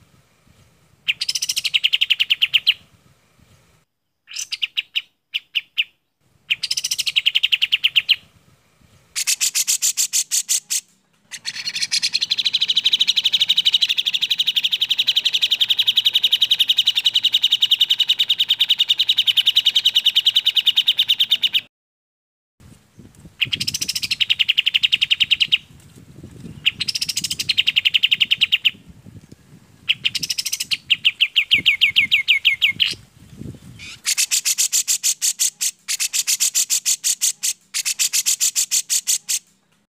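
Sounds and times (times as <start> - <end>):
birds singing rattling trills: 1.1 - 2.8, 4.1 - 8.2, 8.8 - 21.6, 22.9 - 39.5.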